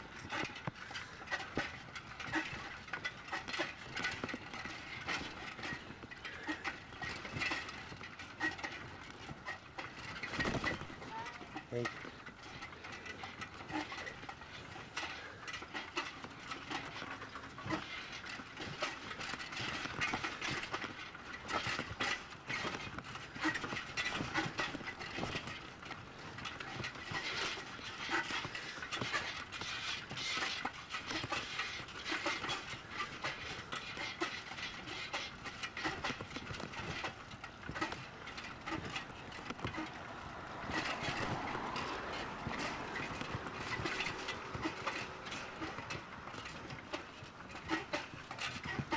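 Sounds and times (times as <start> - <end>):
bicycle rattling on concrete: 0.0 - 48.9.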